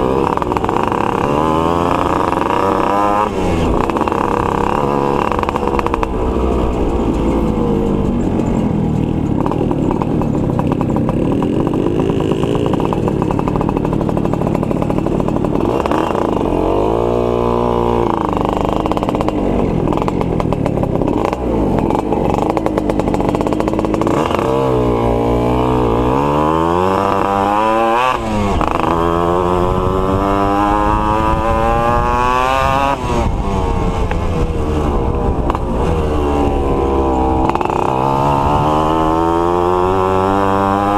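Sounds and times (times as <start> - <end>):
two-stroke motorcycles revving: 0.0 - 40.9.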